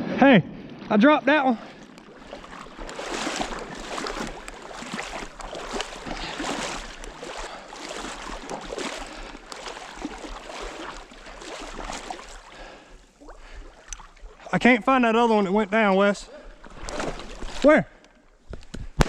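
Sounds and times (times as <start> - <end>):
splashing in shallow water: 1.4 - 18.3.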